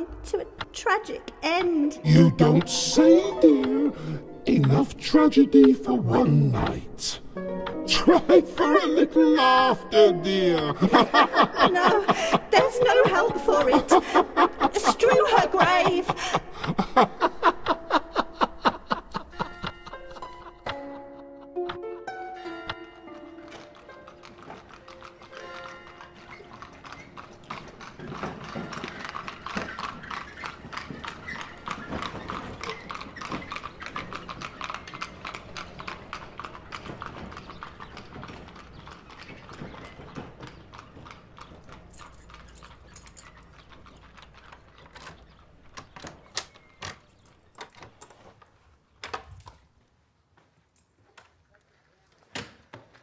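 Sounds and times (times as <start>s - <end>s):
horse hooves clip-clopping: 4.4s - 17.8s, 18.7s - 53.0s.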